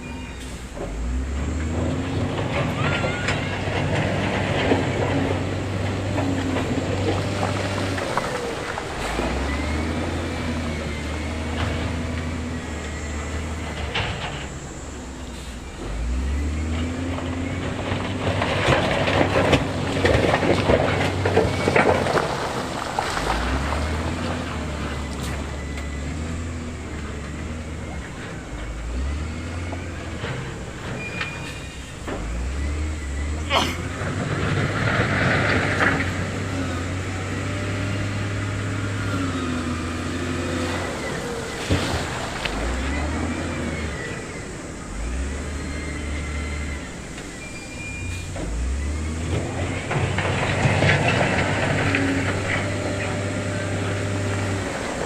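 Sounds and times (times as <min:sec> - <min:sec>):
diesel engine working under load: 0:00.0 - 0:55.0
rock and steel scraping and clanking: 0:00.0 - 0:55.0.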